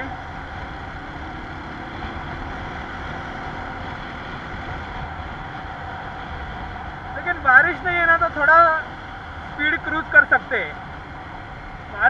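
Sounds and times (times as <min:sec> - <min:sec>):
motorcycle engine hum: 0:00.0 - 0:12.0
road noise: 0:00.0 - 0:12.0
wind noise: 0:00.0 - 0:12.0.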